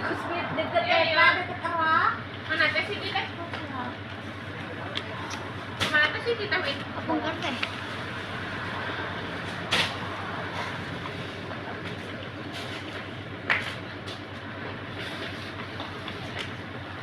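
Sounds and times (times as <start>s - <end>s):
steady rumbling: 0.0s - 17.0s.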